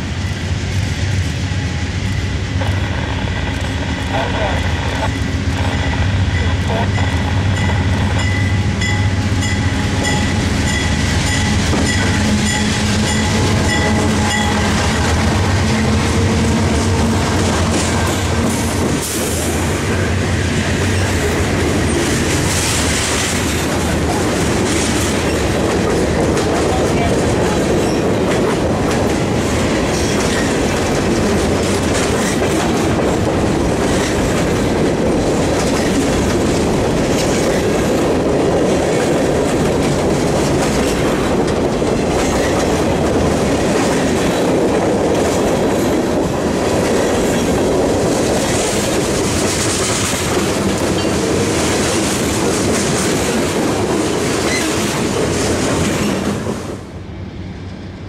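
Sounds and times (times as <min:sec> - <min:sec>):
railcars rumbling: 0:00.0 - 0:58.0
train engine hum: 0:00.0 - 0:58.0
wheels clacking over rail joints: 0:05.0 - 0:56.8.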